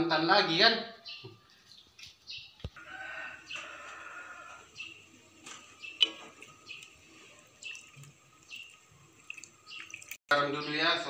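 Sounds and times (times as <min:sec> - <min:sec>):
birds chirping: 0:00.6 - 0:11.0.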